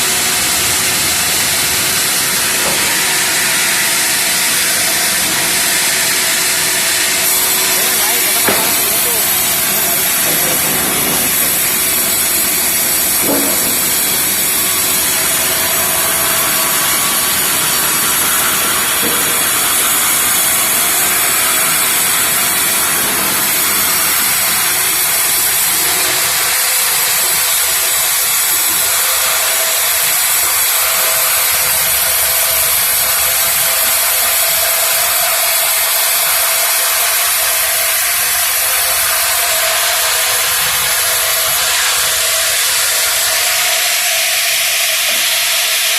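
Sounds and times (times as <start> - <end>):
sawmill machine sawing timber: 0.0 - 45.9.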